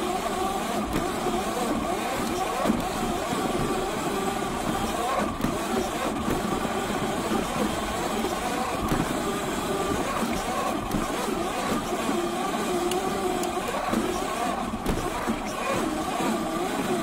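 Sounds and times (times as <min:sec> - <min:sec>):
electric motor and chain whine: 0:00.0 - 0:17.0.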